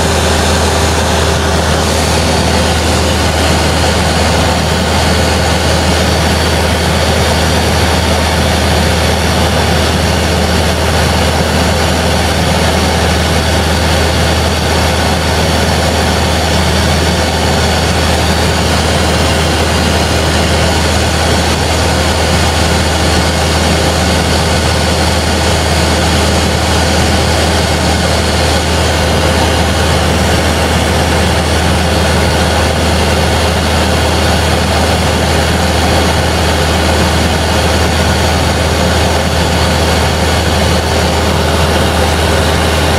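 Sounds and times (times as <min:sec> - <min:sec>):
aircraft engine drone: 0:00.0 - 0:42.9.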